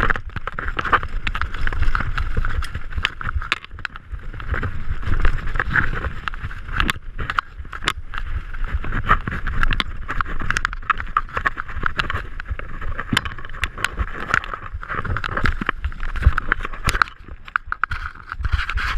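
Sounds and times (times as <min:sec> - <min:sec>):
bike frame rattling and clattering: 0:00.0 - 0:18.9
wind on microphone: 0:00.0 - 0:18.9.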